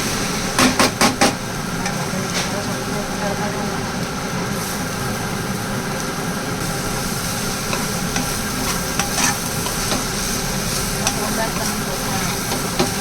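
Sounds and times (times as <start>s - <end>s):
food sizzling in a frying pan: 0.0s - 13.0s
steady hum: 0.0s - 13.0s.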